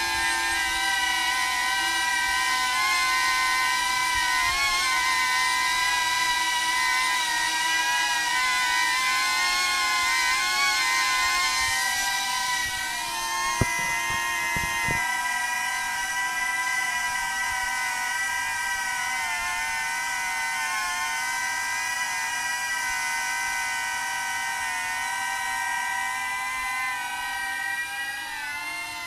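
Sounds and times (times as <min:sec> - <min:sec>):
drone propellers whining: 0:00.0 - 0:29.0.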